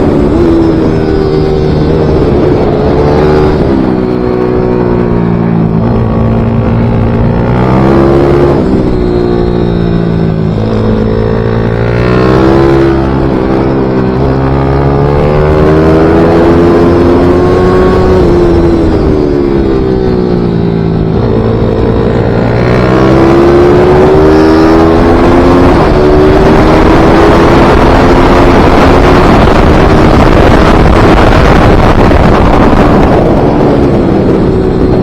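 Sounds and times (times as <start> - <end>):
racing motorcycle engine revving: 0.0 - 35.0.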